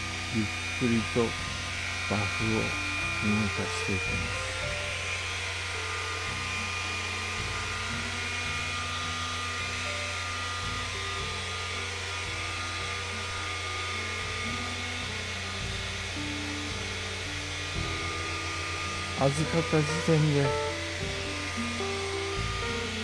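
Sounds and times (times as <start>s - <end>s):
car polisher running: 0.0s - 23.0s.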